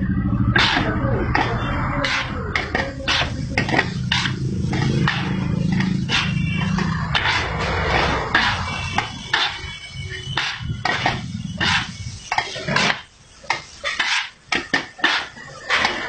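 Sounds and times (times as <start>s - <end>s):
metal spatulas striking griddle: 0.6s - 16.0s.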